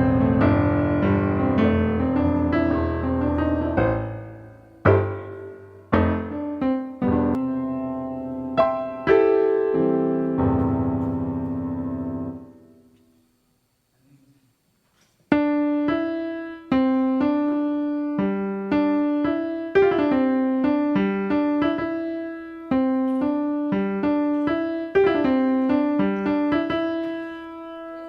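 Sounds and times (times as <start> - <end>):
piano chords and notes: 0.0 - 13.4, 15.3 - 28.0.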